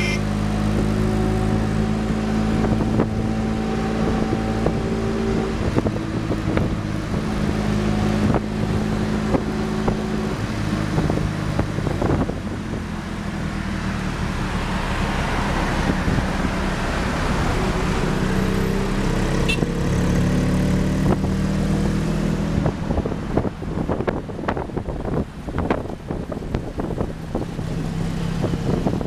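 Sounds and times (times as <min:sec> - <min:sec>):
passing traffic: 0:00.0 - 0:29.0
road noise: 0:00.0 - 0:29.0
wind rush: 0:00.4 - 0:18.7, 0:21.0 - 0:29.0.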